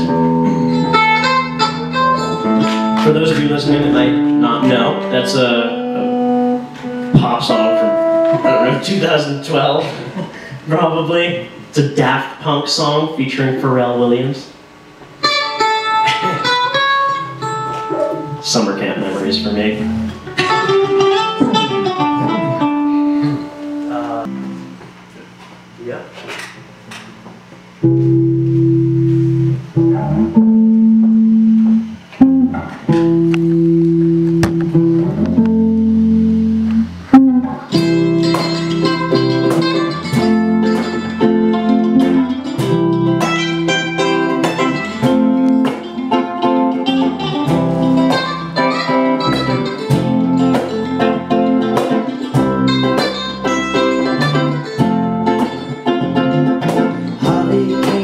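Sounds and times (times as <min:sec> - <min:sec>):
electric guitar: 0:00.0 - 0:11.8, 0:14.3 - 0:58.0
electric bass: 0:00.0 - 0:12.5, 0:14.3 - 0:58.0.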